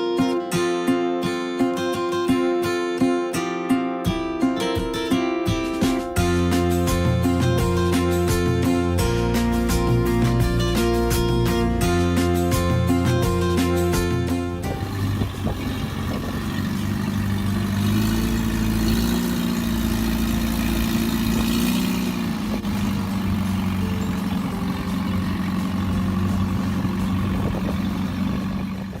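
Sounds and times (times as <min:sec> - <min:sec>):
engine running: 0:05.6 - 0:29.0.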